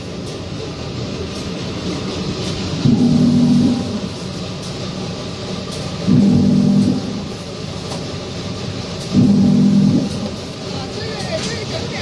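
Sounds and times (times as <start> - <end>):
carton slitter machine running: 0.0 - 12.0
loud machine hum: 0.0 - 12.0.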